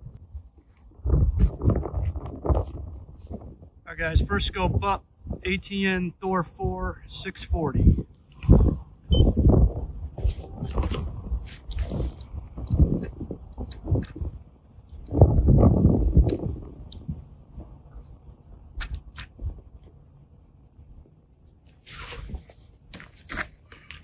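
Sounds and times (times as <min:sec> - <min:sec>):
low rumbling rustle: 0:00.0 - 0:04.4, 0:07.9 - 0:24.0.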